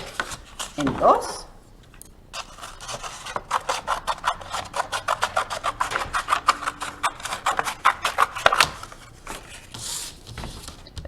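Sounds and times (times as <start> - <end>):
scissors cutting paper plate: 0.0 - 1.2, 2.4 - 10.8.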